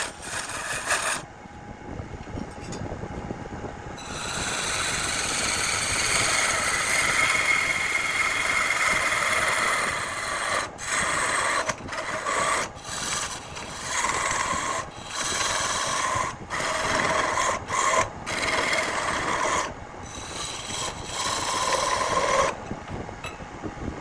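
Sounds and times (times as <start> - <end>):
wood rasping on a lathe: 0.0 - 1.3, 4.0 - 22.6.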